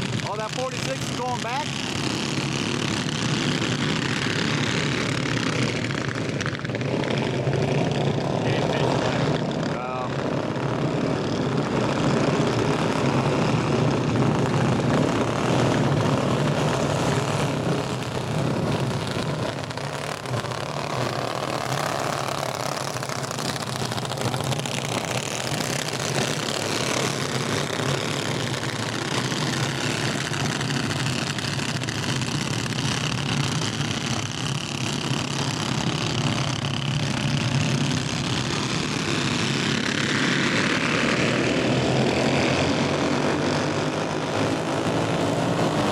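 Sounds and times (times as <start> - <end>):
go-kart engines buzzing: 0.0 - 45.9.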